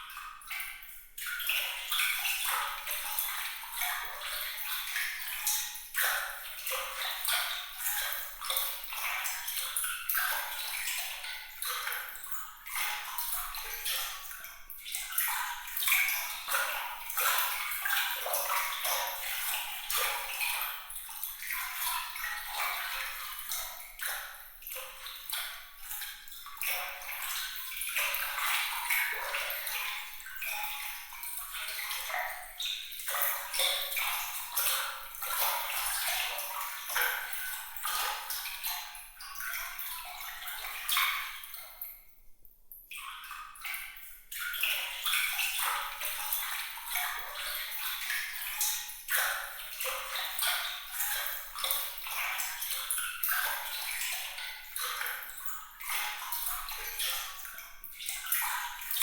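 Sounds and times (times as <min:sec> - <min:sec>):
water trickling and splashing: 0:00.0 - 0:42.1, 0:42.9 - 0:59.0.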